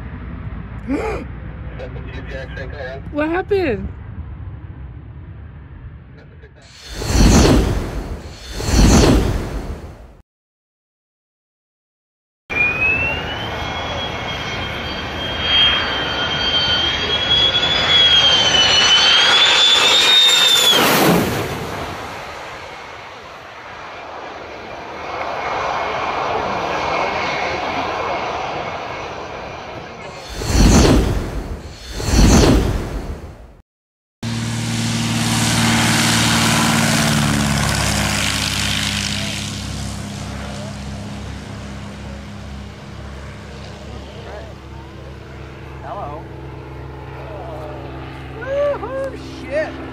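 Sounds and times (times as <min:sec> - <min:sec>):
jet engine whine passing overhead: 0:00.0 - 0:10.2, 0:12.5 - 0:33.6, 0:34.2 - 0:49.9.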